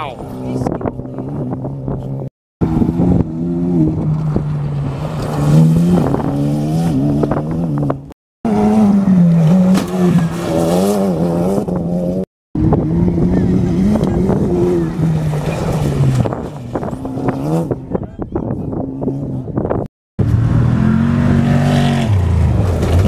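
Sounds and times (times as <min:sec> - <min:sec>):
race truck engines accelerating: 0:00.1 - 0:23.0.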